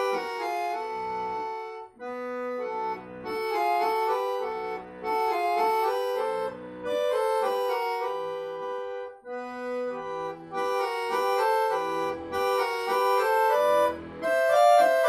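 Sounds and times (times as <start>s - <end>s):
accordion melody: 0.0s - 15.0s
gusli accompanying: 0.0s - 15.0s.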